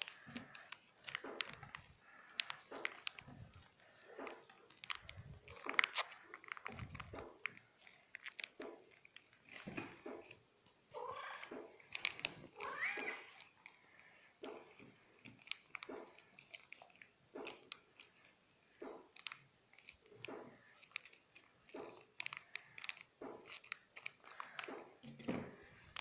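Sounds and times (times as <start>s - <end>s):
cat chewing food: 0.0s - 26.0s.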